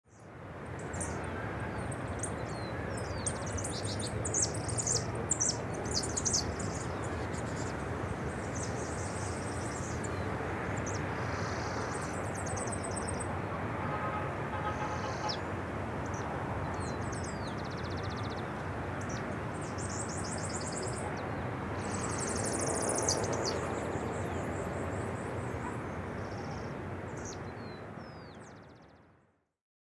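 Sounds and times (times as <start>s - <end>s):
city background hum: 0.2s - 28.8s
small birds chirping: 0.8s - 13.3s, 16.1s - 28.8s.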